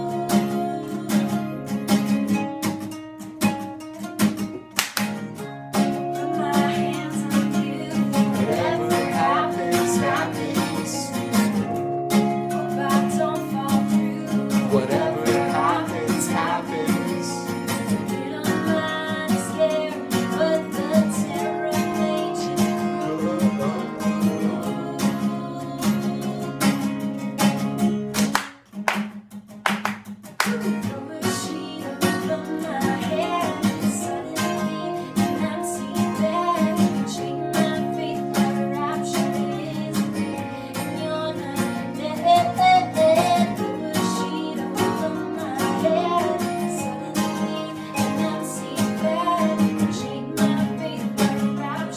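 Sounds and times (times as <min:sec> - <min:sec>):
woman singing: 0:00.0 - 0:01.9, 0:05.9 - 0:26.9, 0:30.4 - 0:51.9
acoustic guitars strumming: 0:00.0 - 0:51.9.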